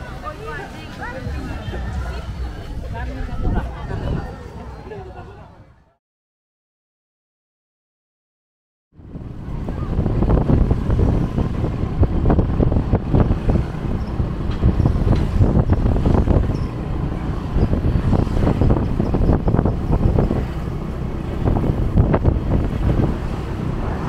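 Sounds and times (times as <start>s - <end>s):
wind buffeting microphone: 0.0s - 5.7s, 9.0s - 24.0s
road and traffic noise: 0.0s - 5.9s, 9.0s - 24.0s.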